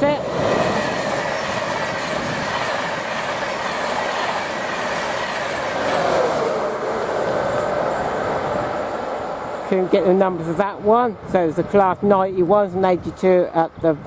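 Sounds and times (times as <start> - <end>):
train passing: 0.0 - 14.0
wheel and rail noise: 0.0 - 14.0.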